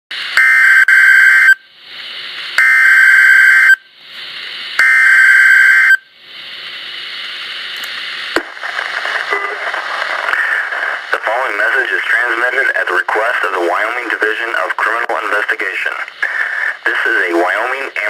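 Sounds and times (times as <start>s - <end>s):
radio static hissing: 0.1s - 18.0s.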